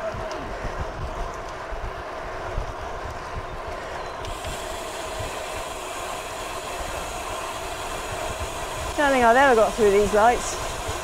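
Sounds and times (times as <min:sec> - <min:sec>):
tyres rushing on tarmac: 0:00.0 - 0:11.0
wind buffeting microphone: 0:00.0 - 0:11.0.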